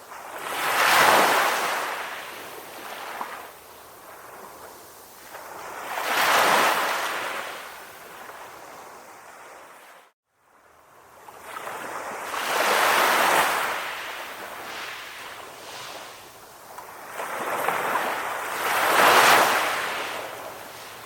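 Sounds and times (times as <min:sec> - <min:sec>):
ocean waves breaking: 0:00.0 - 0:10.0, 0:11.3 - 0:21.0
soft wash of surf: 0:00.0 - 0:21.0.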